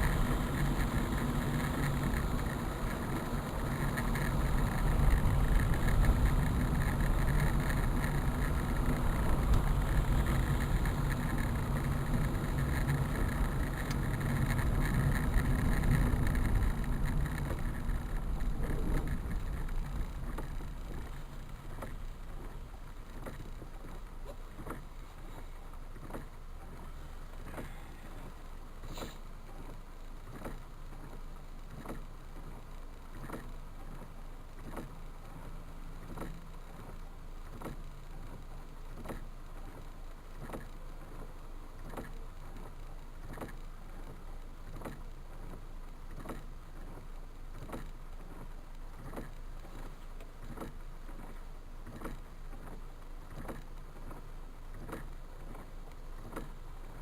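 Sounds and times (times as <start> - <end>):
engine rumble: 0.0 - 57.0.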